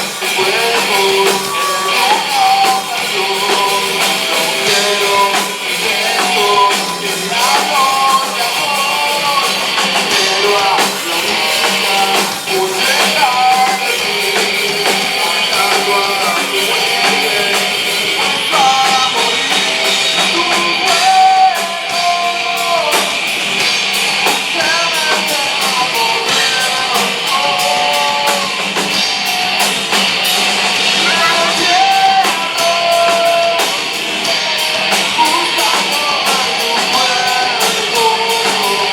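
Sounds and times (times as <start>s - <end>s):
person singing: 0.0s - 23.3s, 24.2s - 29.6s, 30.8s - 38.9s
drums: 0.0s - 38.9s
electric guitars: 0.0s - 38.9s.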